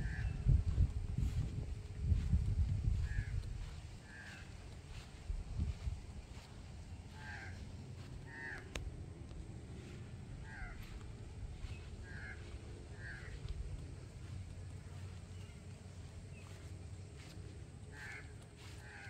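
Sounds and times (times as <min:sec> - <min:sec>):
bird calling: 0:00.0 - 0:00.8, 0:02.9 - 0:19.0
low rumble of wind: 0:00.0 - 0:19.0.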